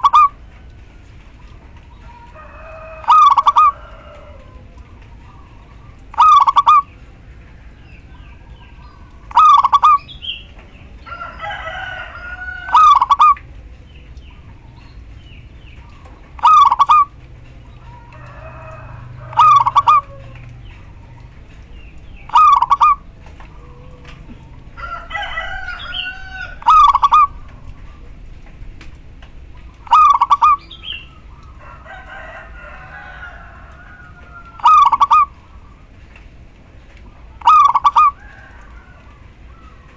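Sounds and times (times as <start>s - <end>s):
wavering bird calls: 0.0s - 28.4s, 29.4s - 39.9s
dove calling: 0.0s - 28.8s, 29.4s - 39.9s.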